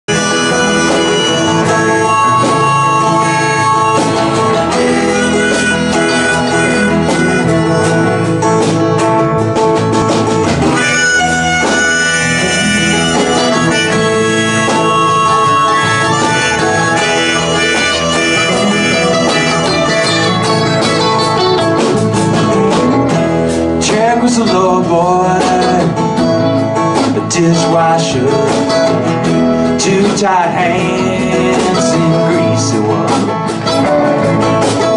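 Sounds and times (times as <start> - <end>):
live country band playing: 0.1 - 34.9.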